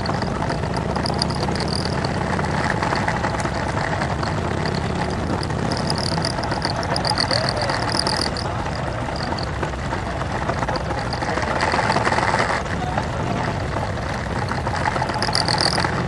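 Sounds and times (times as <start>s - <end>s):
group of motorcycle engines: 0.0s - 16.0s.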